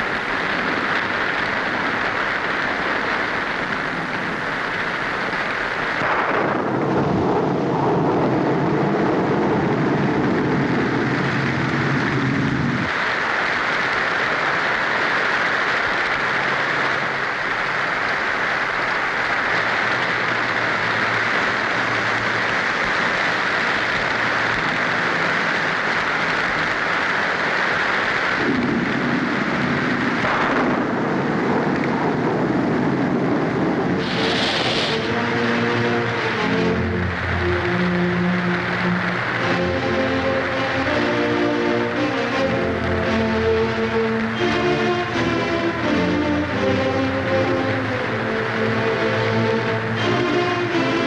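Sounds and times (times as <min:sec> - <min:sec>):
deep rumble: 0:00.0 - 0:51.0
heavy rain: 0:00.0 - 0:51.0.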